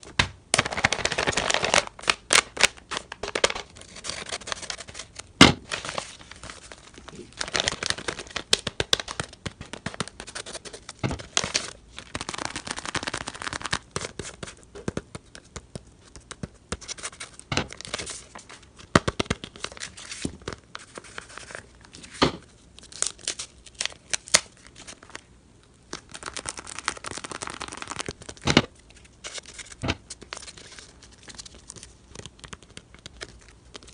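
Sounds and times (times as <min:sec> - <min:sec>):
paper crinkling and tearing: 0:00.6 - 0:14.6, 0:19.3 - 0:22.2, 0:22.8 - 0:25.3, 0:25.9 - 0:33.9.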